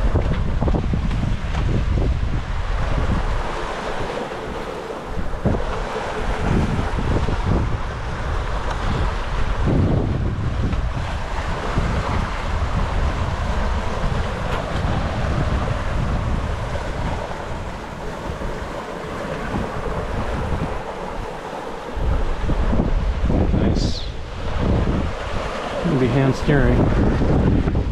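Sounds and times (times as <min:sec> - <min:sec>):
waves rushing along boat hull: 0:00.0 - 0:27.9
wind buffeting microphone: 0:00.0 - 0:27.9.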